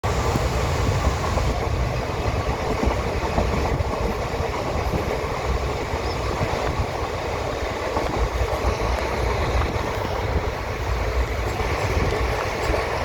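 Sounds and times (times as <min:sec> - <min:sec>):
train rumbling and rattling: 0:00.0 - 0:13.0.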